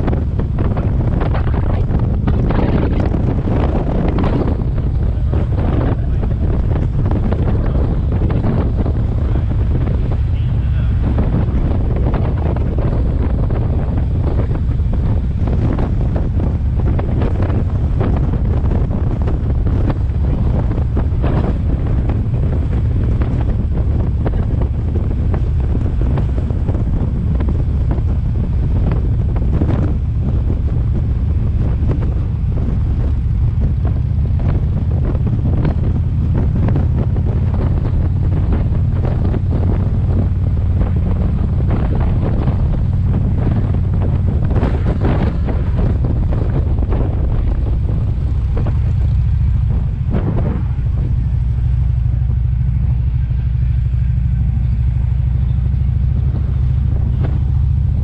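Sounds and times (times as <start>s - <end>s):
car road noise rumble: 0.0s - 58.0s
wind buffeting microphone: 0.0s - 58.0s.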